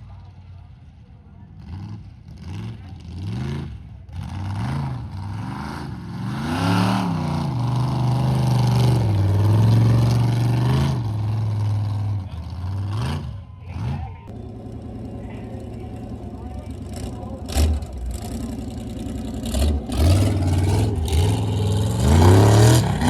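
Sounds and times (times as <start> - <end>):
truck engine revving: 1.4 - 23.0.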